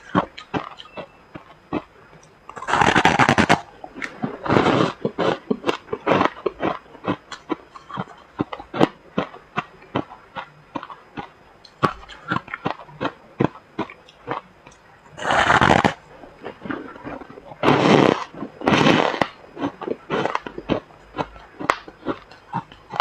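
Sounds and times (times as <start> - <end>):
chewing crunchy ice: 0.0 - 23.0.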